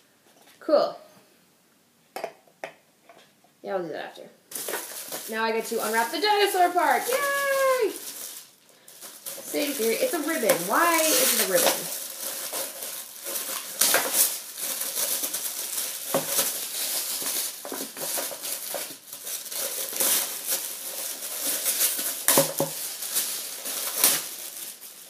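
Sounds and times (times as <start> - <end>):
plastic wrapping crinkling: 4.5 - 25.0.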